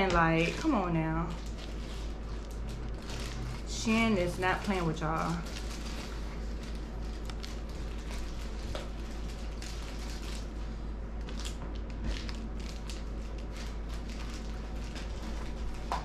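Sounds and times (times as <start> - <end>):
room hum and hiss: 0.0 - 16.0.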